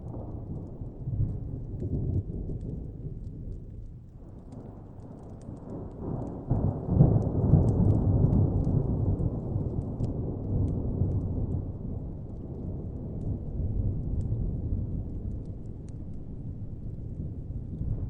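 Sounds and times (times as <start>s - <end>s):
distant thunder rumbling: 0.0s - 3.7s, 4.3s - 18.0s
fire crackling: 0.0s - 18.0s.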